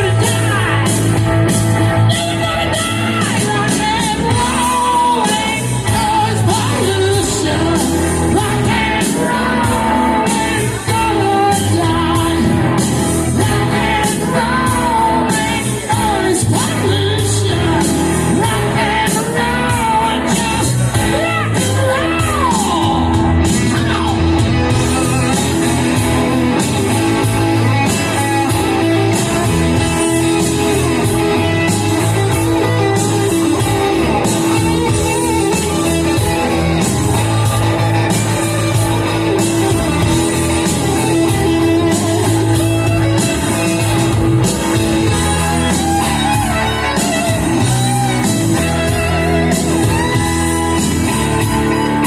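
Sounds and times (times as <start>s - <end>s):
bass and drums: 0.0s - 52.0s
electric guitar with bent notes: 0.0s - 52.0s.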